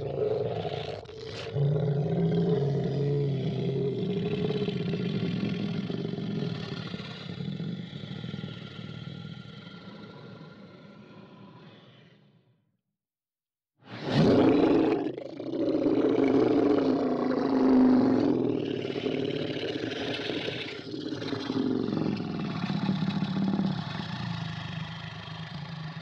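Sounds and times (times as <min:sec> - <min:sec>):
deep monster growl: 0:00.0 - 0:12.2, 0:13.9 - 0:26.0.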